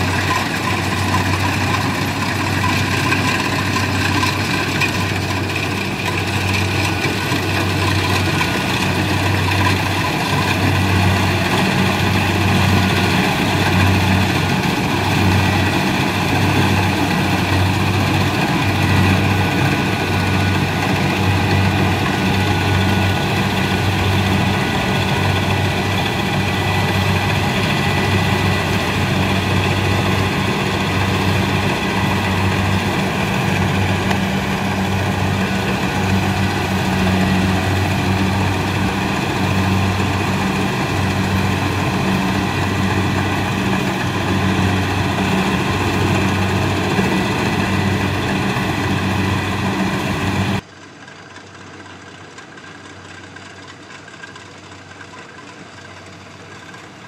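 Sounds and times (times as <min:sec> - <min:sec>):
threshing machinery noise: 0:00.0 - 0:50.7
diesel engine hum: 0:00.0 - 0:57.0.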